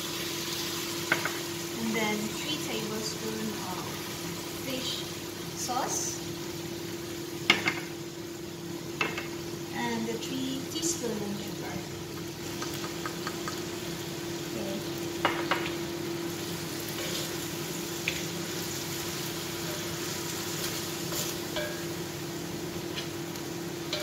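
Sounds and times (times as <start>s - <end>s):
chicken sizzling in a wok: 0.0s - 24.0s.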